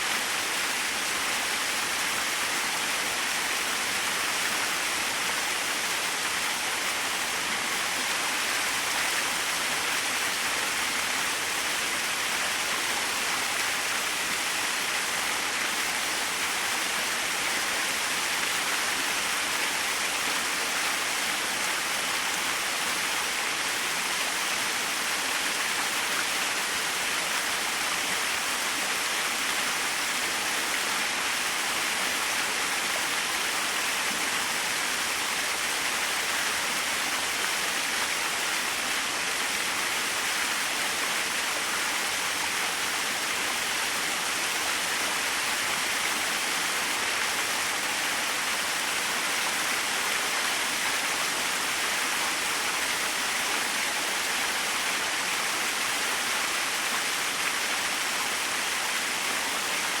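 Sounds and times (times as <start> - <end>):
small waterfall splashing: 0.0 - 60.0.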